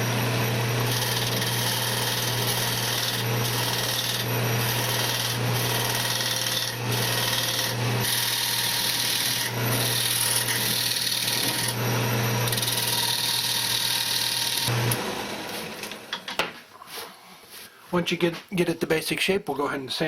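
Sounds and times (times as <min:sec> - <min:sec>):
wood lathe humming: 0:00.0 - 0:16.4
turning tool cutting wood: 0:00.0 - 0:16.5.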